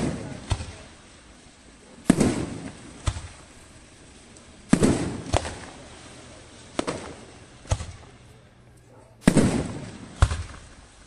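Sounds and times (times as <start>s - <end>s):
firework shells bursting: 0.0s - 11.0s
sharp lighter firework reports: 0.0s - 11.0s.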